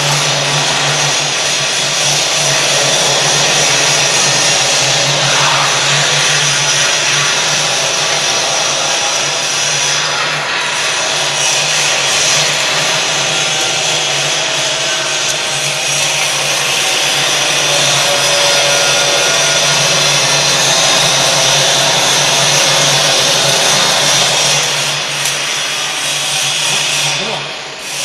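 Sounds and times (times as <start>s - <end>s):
motor-driven machine running: 0.0s - 28.0s.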